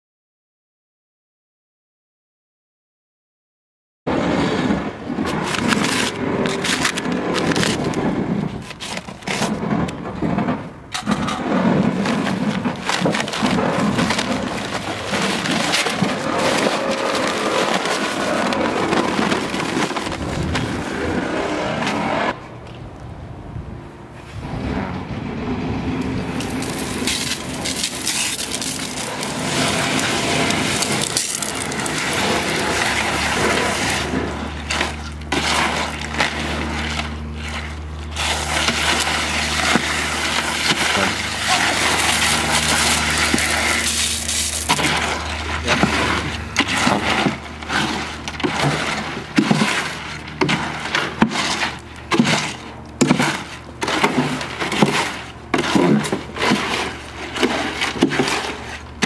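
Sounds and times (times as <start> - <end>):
hoe scraping gravel: 4.1 - 22.4, 24.2 - 59.0.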